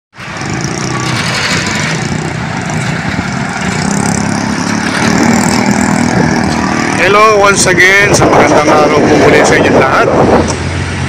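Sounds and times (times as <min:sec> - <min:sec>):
traffic noise: 0:00.1 - 0:11.0
vehicle engines running: 0:00.2 - 0:11.0.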